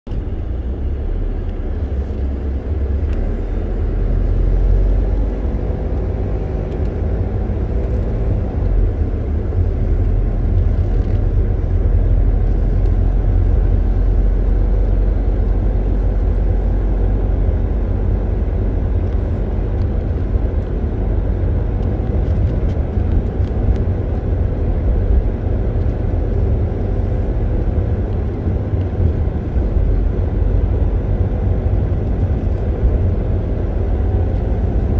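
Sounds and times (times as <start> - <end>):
car engine and tyre rumble: 0.0 - 34.9.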